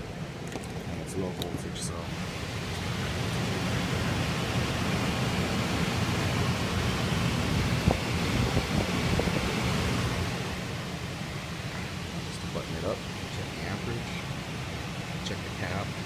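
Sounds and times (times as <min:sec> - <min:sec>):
blower air rush over hum: 0:00.0 - 0:16.0.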